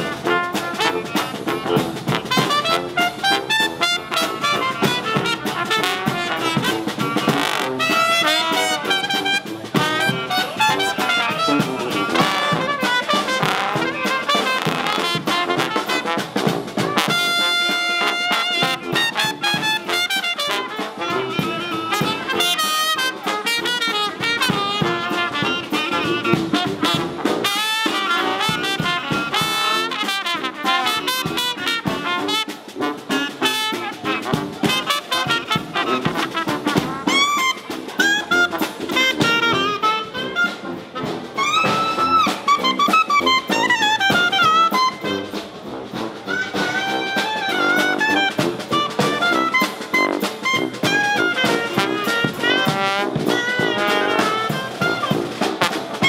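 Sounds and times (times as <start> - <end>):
brass band playing jazz: 0.0 - 56.0.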